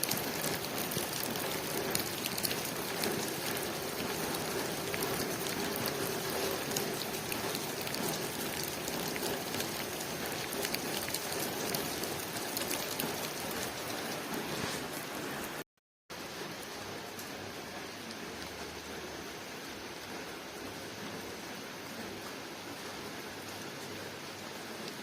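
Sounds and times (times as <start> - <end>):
rain on a window pane: 0.0 - 25.0.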